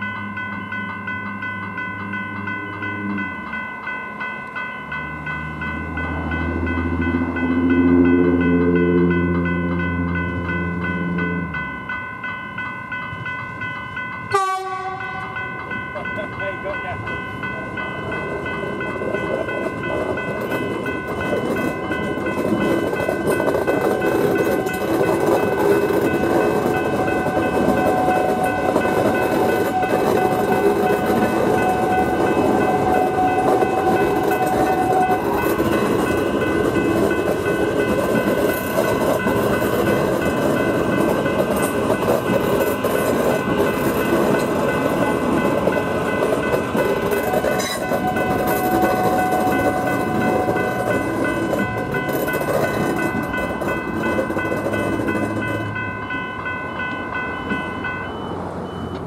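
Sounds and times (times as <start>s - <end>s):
level crossing warning bells: 0.0s - 59.0s
train hum: 0.0s - 59.0s
train wheels rumbling on rails: 0.0s - 59.0s.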